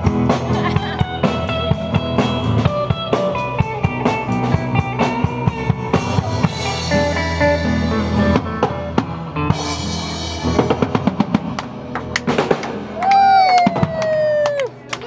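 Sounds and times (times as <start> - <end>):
bass guitar: 0.0 - 15.0
drum kit beat: 0.0 - 15.0
electric and acoustic guitars: 0.0 - 15.0.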